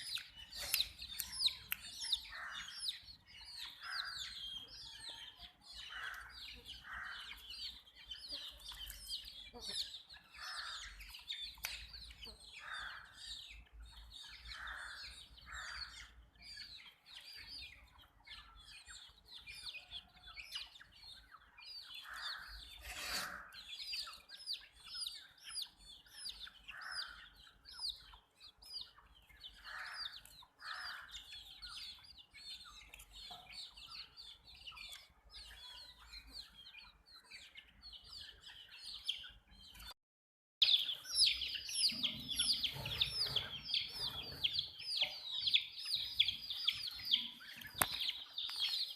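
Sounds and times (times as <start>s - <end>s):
baby chicks peeping: 0.0s - 40.0s, 40.6s - 48.9s.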